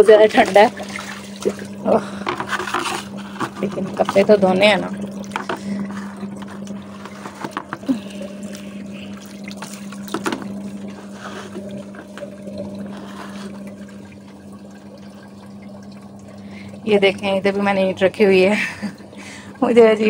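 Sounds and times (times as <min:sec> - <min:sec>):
steady low hum: 0:00.0 - 0:20.0
water running into plastic tub: 0:00.0 - 0:20.0.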